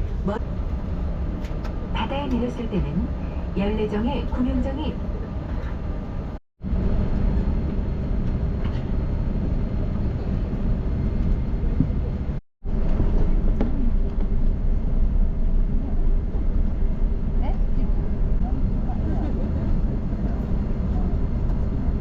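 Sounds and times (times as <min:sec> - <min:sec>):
airplane engines rumbling in cabin: 0:00.0 - 0:22.0.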